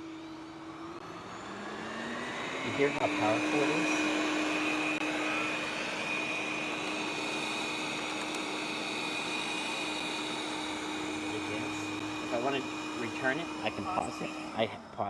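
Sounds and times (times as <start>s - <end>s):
robot vacuum cleaner running: 0.0s - 15.0s.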